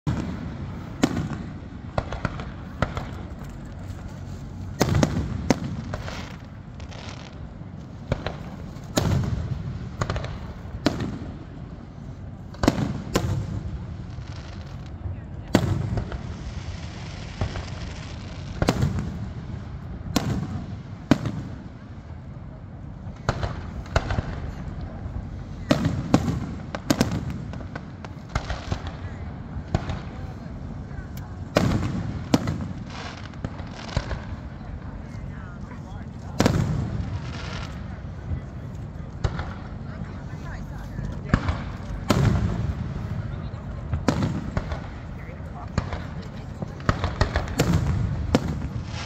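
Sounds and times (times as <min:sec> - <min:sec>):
fireworks banging: 0:00.0 - 0:49.0.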